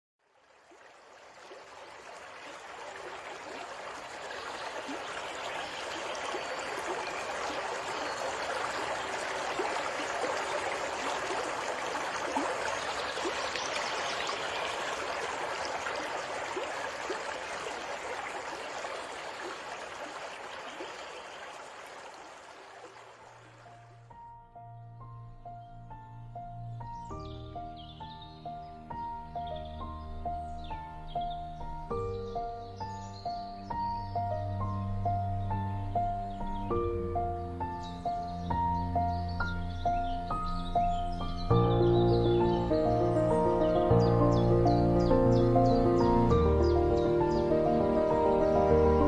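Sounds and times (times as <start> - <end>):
stream trickling over rocks: 0.2 - 24.3, 26.8 - 49.0.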